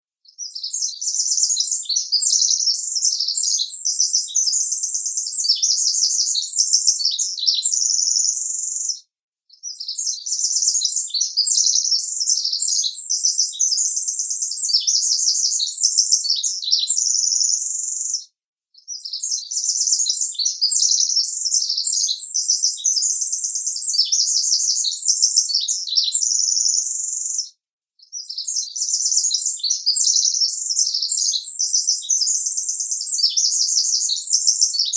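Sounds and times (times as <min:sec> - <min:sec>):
bird chirps and trills: 0:00.3 - 0:18.2, 0:18.8 - 0:34.9.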